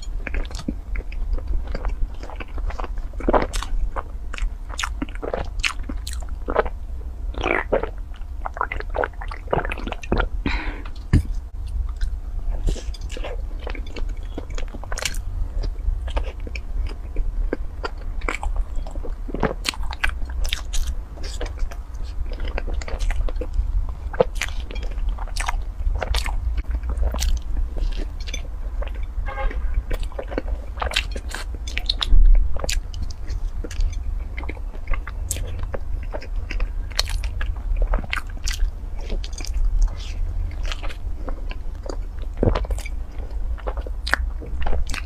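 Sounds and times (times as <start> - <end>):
biting and chewing bread: 0.0 - 45.0
low hum: 0.0 - 45.0.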